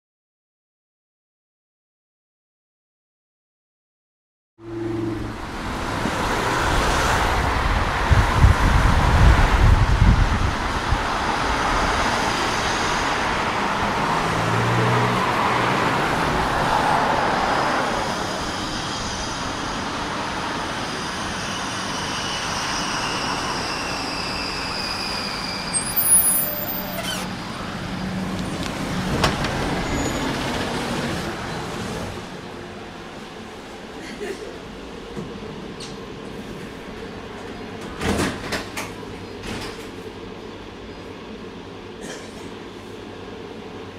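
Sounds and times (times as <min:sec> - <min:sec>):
street traffic: 0:04.6 - 0:43.9
tram electric whine: 0:04.6 - 0:43.9.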